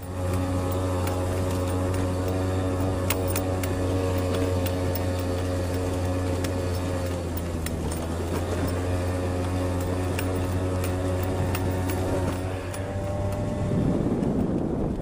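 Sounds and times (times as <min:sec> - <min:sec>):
bike clicks and knocks: 0:00.0 - 0:15.0
motorbike engine running: 0:00.0 - 0:15.0.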